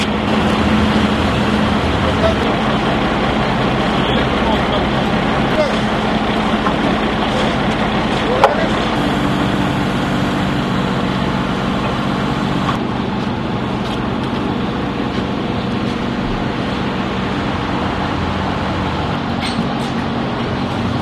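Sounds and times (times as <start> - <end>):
crane engine humming: 0.0 - 21.0.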